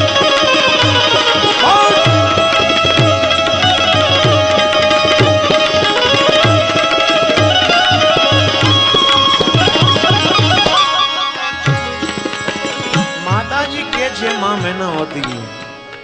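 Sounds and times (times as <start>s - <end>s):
indian banjo melody: 0.0s - 16.0s.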